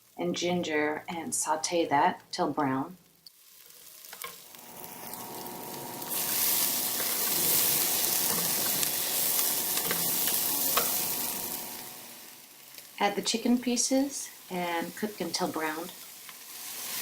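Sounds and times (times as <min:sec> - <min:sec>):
food sizzling in hot oil: 0:01.2 - 0:17.0.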